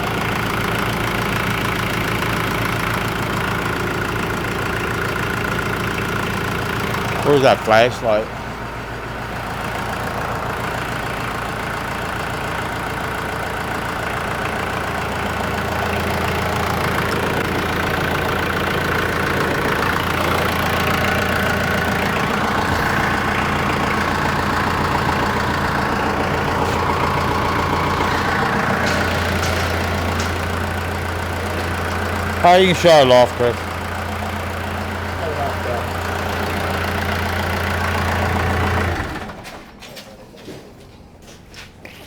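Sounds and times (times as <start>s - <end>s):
tractor engine idling: 0.0s - 42.0s.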